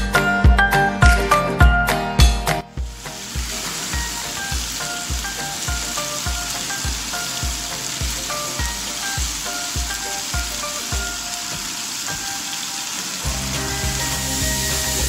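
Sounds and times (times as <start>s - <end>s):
meat sizzling in a pan: 2.8s - 15.0s.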